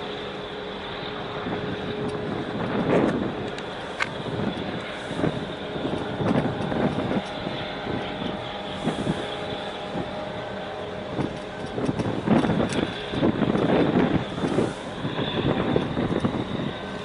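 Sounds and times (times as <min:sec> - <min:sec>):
boat engine droning: 0:00.0 - 0:17.0
wind on microphone: 0:00.8 - 0:17.0.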